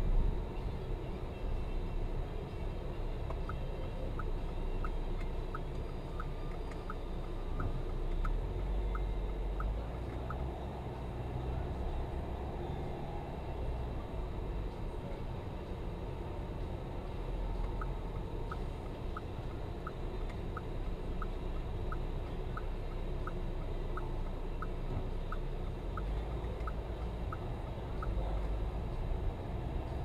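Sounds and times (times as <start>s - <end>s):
car engine and road rumble: 0.0s - 30.0s
turn signal ticking: 0.0s - 30.0s.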